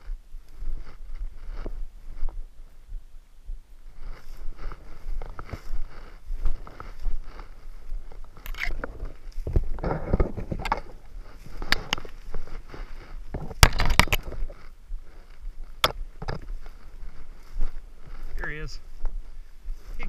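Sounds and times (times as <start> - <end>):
stems scraping against clothing: 0.0 - 2.9, 3.8 - 20.0
footsteps crunching through dry grass: 0.0 - 20.0.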